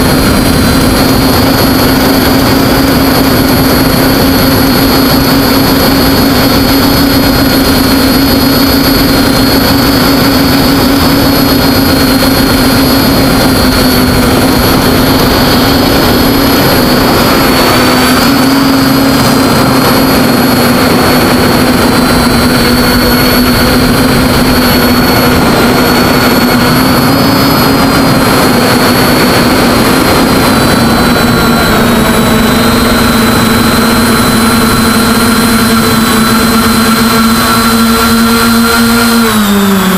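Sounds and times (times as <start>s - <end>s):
air rushing: 0.0s - 36.0s
drone motors buzzing whine: 0.0s - 39.9s.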